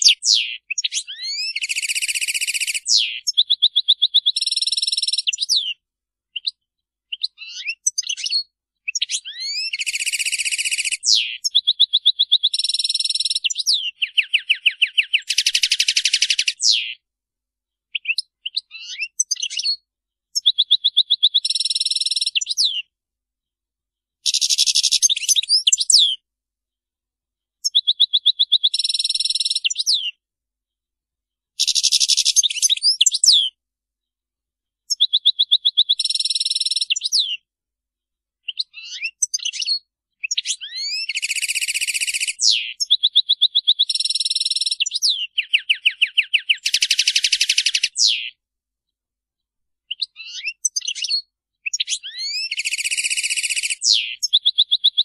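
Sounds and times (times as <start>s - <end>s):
finch singing: 0.0s - 17.0s, 17.9s - 22.9s, 24.2s - 26.2s, 27.6s - 30.2s, 31.6s - 33.6s, 34.9s - 37.4s, 38.4s - 48.4s, 49.9s - 55.0s.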